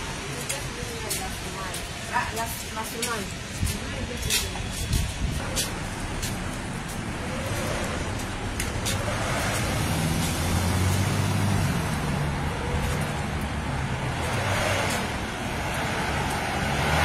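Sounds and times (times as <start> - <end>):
road noise: 0.0 - 17.0
car engines running: 3.3 - 17.0.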